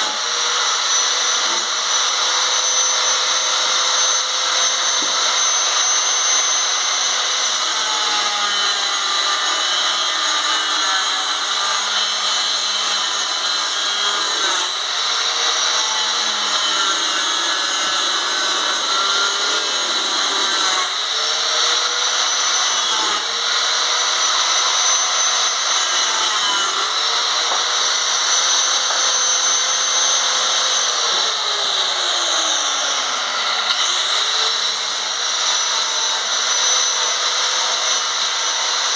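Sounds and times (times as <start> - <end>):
power tool cutting plastic: 0.0 - 38.9.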